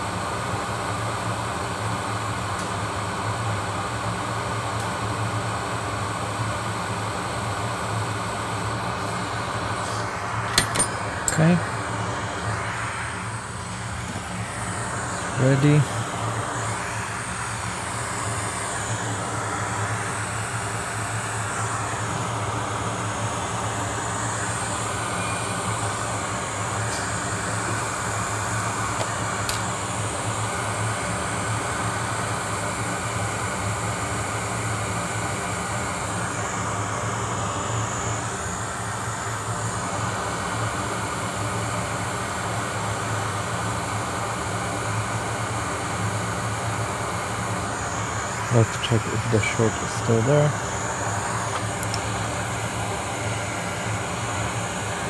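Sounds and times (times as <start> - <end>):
low fan hum: 0.0 - 55.0
hot air blowing: 6.8 - 55.0.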